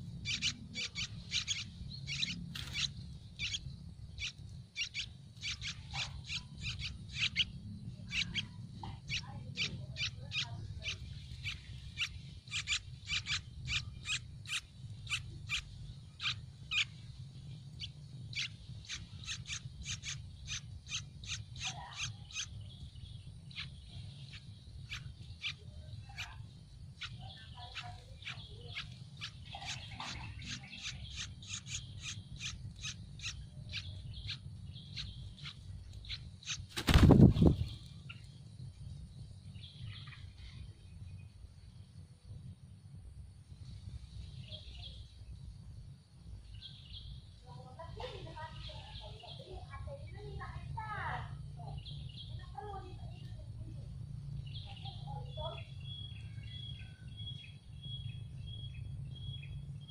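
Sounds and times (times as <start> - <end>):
nestlings chirping: 0.0 - 41.4, 43.6 - 59.9.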